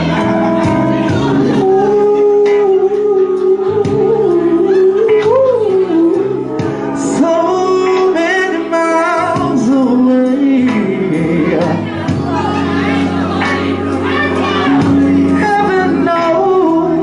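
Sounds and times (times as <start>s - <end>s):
person singing karaoke: 0.0s - 17.0s
recorded backing track: 0.0s - 17.0s.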